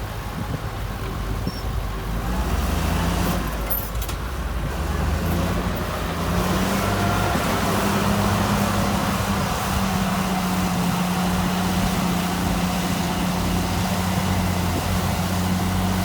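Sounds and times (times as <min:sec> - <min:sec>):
heavy diesel engine revving: 0:01.2 - 0:16.0.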